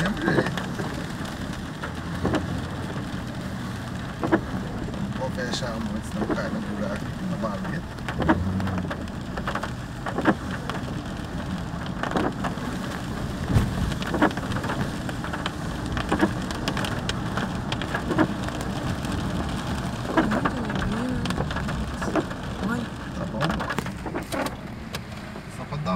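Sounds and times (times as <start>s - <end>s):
rain on a car roof: 0.0s - 25.9s.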